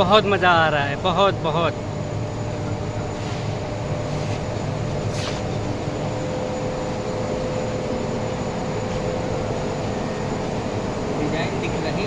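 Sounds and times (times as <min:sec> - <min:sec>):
mechanical hum with whine: 0:00.0 - 0:12.0.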